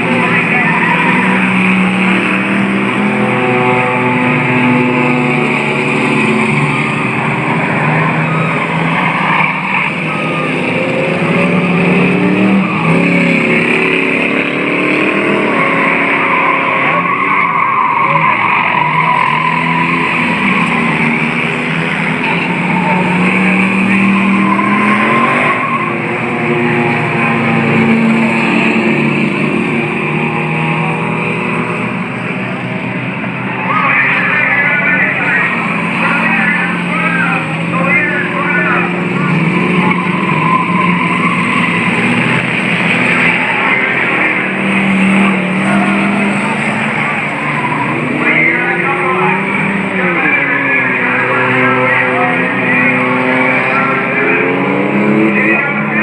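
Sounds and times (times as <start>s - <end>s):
racing car engines revving: 0.0s - 56.0s
tire noise: 0.0s - 56.0s.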